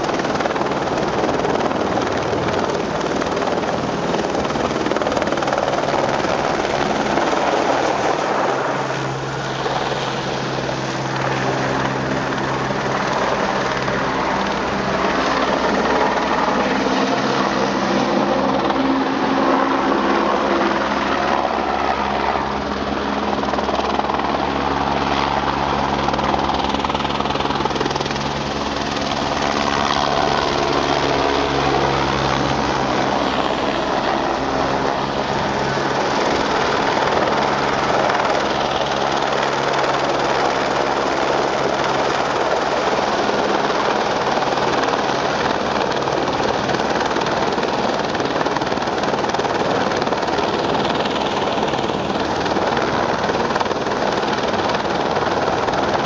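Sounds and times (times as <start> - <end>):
helicopter flying overhead: 0.0 - 56.0.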